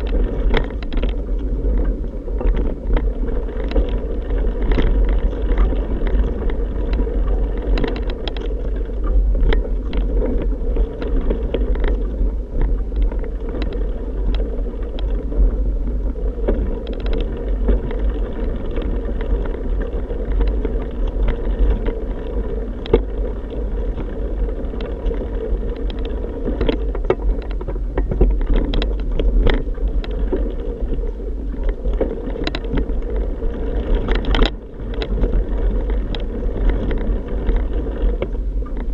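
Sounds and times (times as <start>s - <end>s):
bike road rumble: 0.0s - 38.9s
sharp clicks and rattles: 0.0s - 38.9s
wind buffeting: 0.0s - 38.9s.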